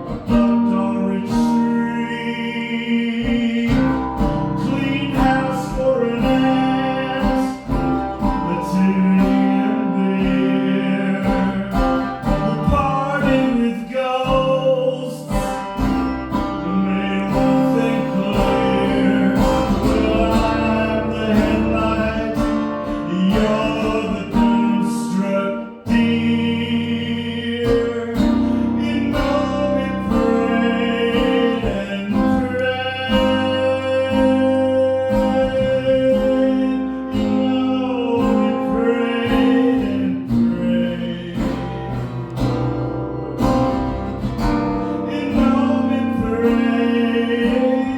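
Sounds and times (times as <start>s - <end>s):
person singing: 0.0s - 42.0s, 45.0s - 47.9s
guitar playing: 0.0s - 47.9s.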